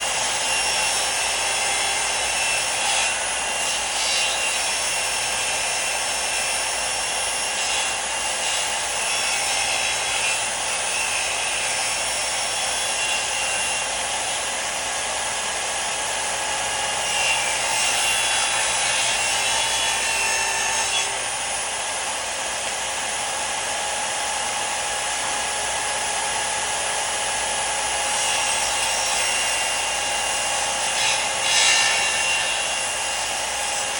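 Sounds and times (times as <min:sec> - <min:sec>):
power saw cutting wood: 0:00.0 - 0:33.9.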